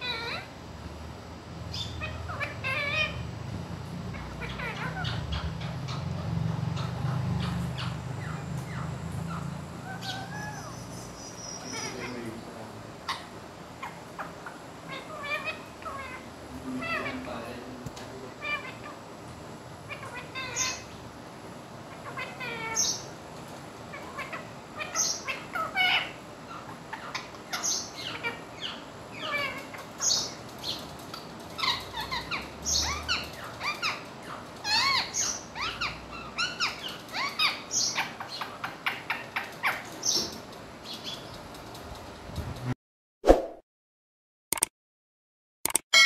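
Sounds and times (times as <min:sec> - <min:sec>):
parakeet chirping: 0:00.0 - 0:00.5, 0:01.7 - 0:17.6, 0:18.3 - 0:19.1, 0:19.8 - 0:21.1, 0:21.9 - 0:23.2, 0:23.9 - 0:41.3.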